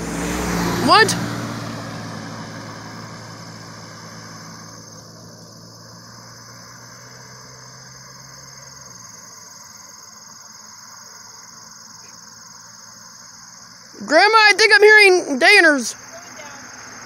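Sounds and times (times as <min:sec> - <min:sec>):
car driving away: 0:00.0 - 0:17.0
insects chirring: 0:00.1 - 0:17.0.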